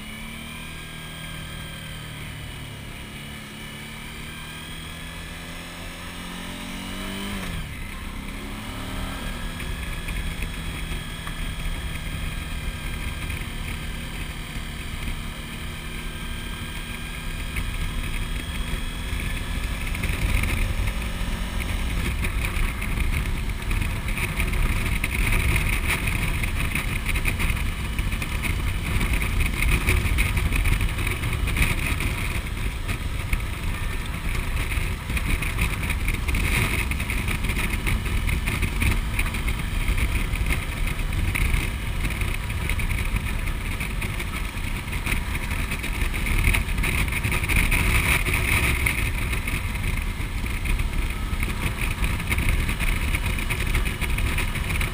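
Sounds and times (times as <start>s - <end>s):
motorcycle engine drone: 0.0s - 54.9s.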